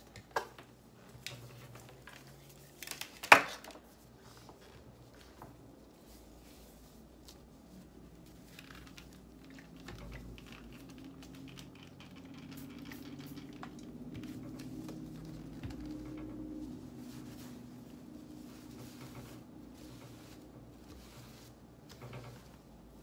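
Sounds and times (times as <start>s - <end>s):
cloth rustling: 0.7s - 11.8s, 13.5s - 23.0s.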